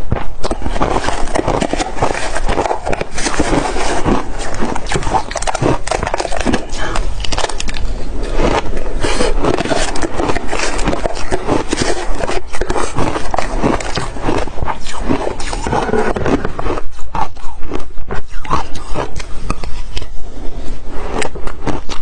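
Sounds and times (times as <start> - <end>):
ice being chewed: 0.1 - 22.0.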